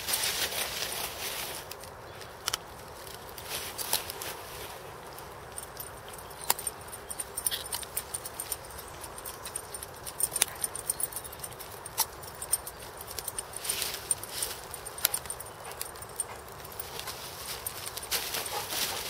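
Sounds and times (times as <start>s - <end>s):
dog collar tags jingling: 0.0s - 19.0s.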